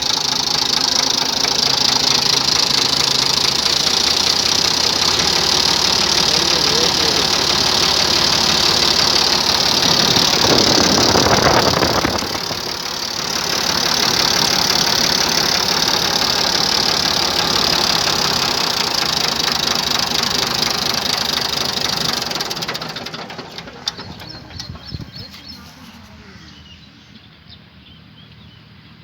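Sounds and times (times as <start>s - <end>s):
tractor diesel engine running: 0.0s - 27.3s.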